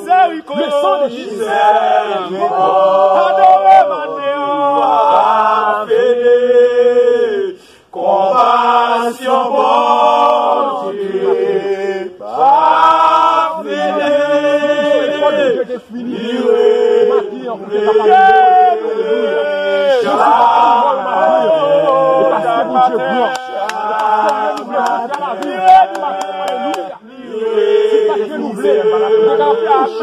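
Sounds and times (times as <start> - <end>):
group chanting a worship song: 0.0 - 30.0.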